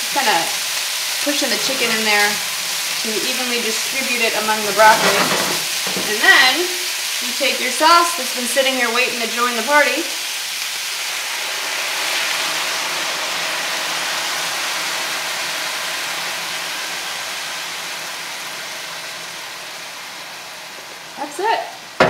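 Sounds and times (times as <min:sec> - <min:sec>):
sauce sizzling in a pan: 0:00.0 - 0:22.0.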